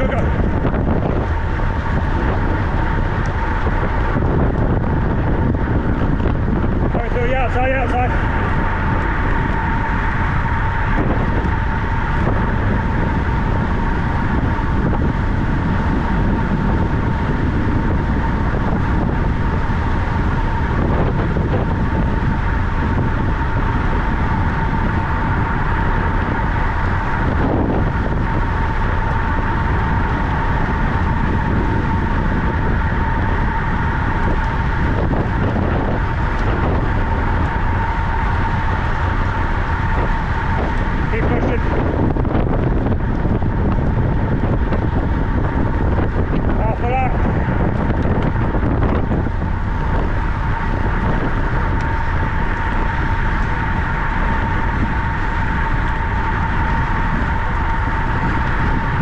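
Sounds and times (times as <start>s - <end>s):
constant high hum: 0.0s - 59.0s
loud wind rush: 0.0s - 59.0s.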